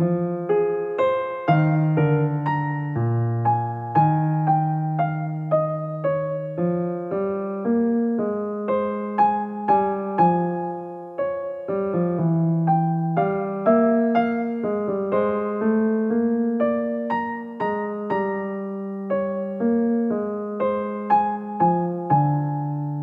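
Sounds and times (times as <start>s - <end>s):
solo piano melody: 0.0s - 23.0s.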